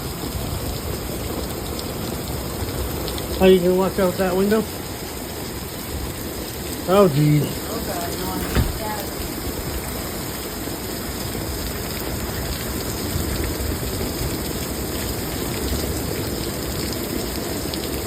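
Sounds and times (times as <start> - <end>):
heavy rain pouring: 0.2 - 18.0.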